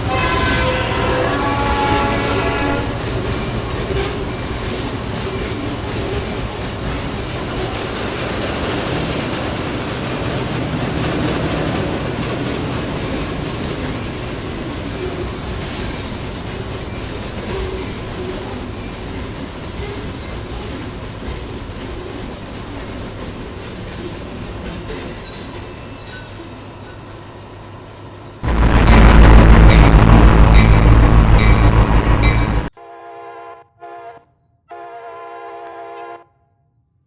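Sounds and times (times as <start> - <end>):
train wheels rumbling over rails: 0.0 - 32.8.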